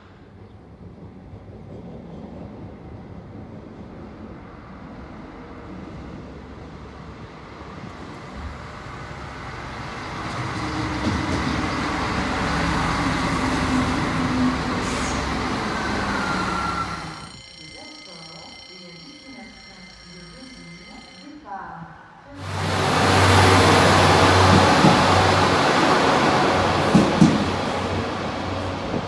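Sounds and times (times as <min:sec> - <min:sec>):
diesel railcar engine: 0:00.0 - 0:21.1, 0:22.4 - 0:29.0
rail noise: 0:00.0 - 0:29.0.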